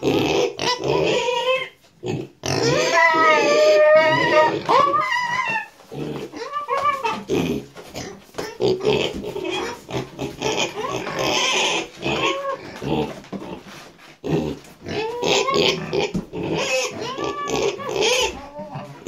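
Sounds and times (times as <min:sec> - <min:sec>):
pigs grunting and squealing: 0:00.0 - 0:19.0.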